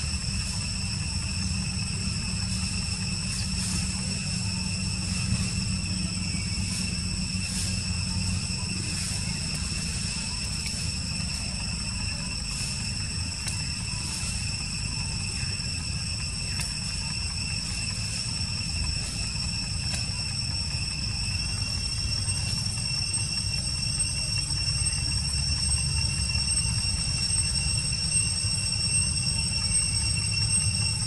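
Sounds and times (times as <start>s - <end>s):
continuous low rumble: 0.0s - 31.0s
high-pitched insect chorus: 0.0s - 31.0s.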